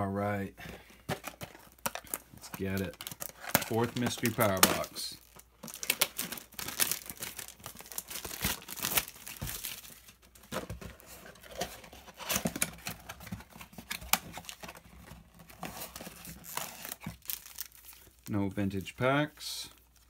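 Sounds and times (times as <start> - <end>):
cardboard tearing and crinkling: 1.2 - 18.2.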